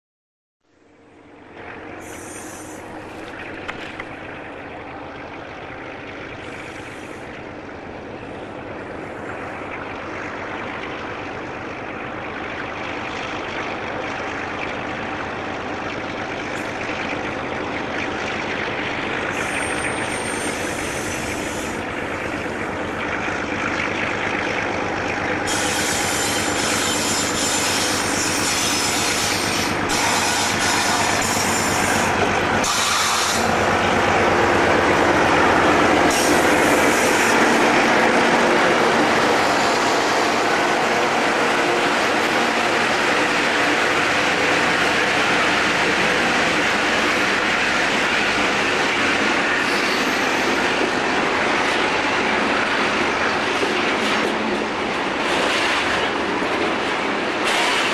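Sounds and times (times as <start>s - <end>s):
diesel locomotive engine under load: 0.7s - 57.9s.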